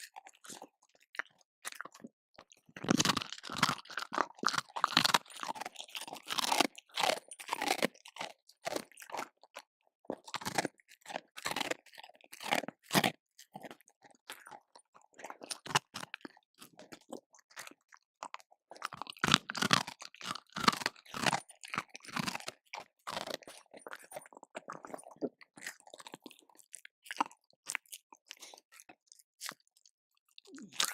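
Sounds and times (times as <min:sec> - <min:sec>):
dog crunching and chewing food: 0:00.0 - 0:30.9.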